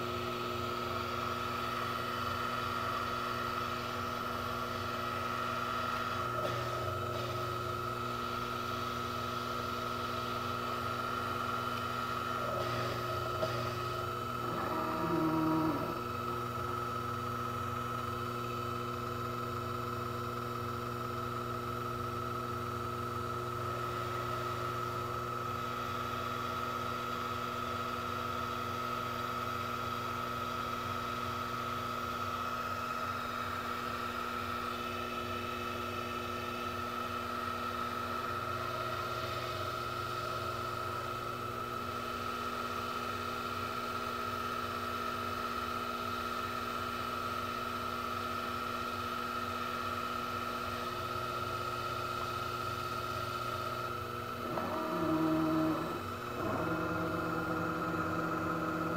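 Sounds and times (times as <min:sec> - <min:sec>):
lathe motor humming and whining: 0:00.0 - 0:58.9.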